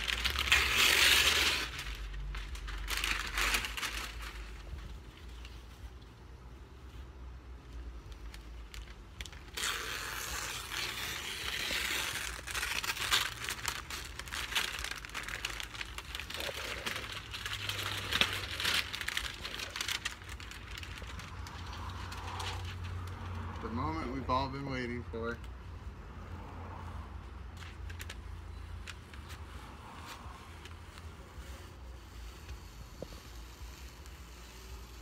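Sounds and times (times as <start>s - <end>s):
paper crinkling and rustling: 0.0s - 25.6s, 27.4s - 35.0s.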